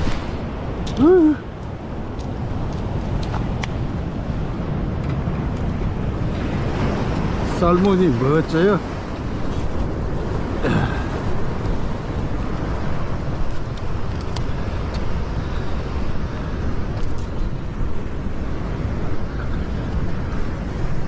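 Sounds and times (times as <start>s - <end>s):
surf washing: 0.0s - 21.0s
wind rumbling on microphone: 0.0s - 21.0s.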